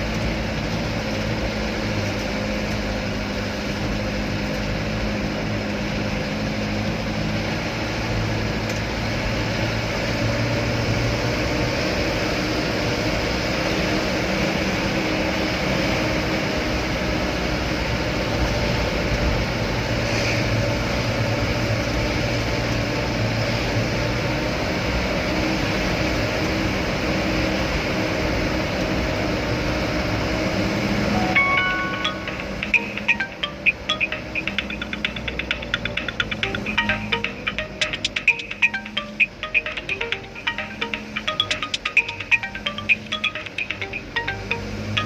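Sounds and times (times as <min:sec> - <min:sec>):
road noise: 0:00.0 - 0:45.0
truck engine drone: 0:00.0 - 0:45.0.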